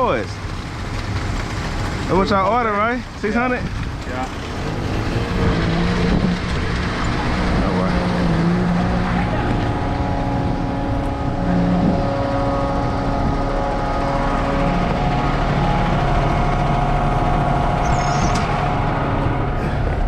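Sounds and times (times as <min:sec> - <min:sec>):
diesel engine running at raised revs: 0:00.0 - 0:20.0.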